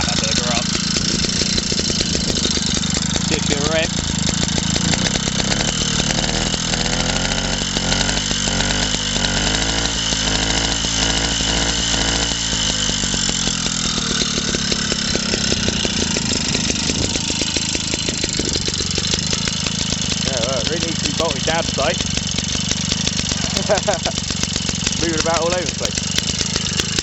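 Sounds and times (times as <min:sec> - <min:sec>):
stationary engine running: 0:00.0 - 0:27.0.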